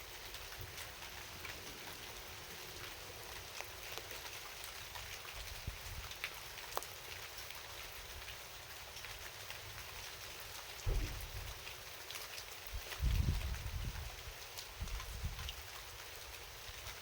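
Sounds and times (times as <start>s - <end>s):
raindrops ticking: 0.0s - 17.0s
steady rain falling: 0.0s - 17.0s.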